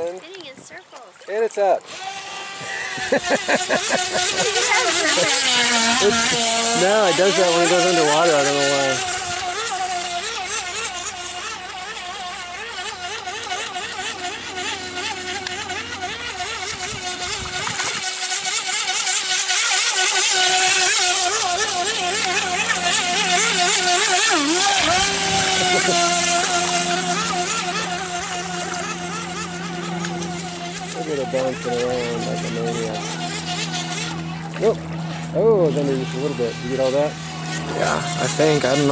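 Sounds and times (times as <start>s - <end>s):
model boat motor whining: 0.0s - 38.9s.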